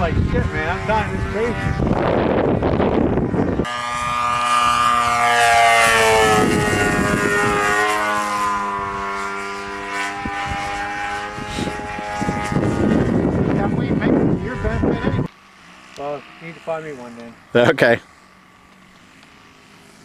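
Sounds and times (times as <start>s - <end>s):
model airplane motor whining: 0.0s - 20.0s.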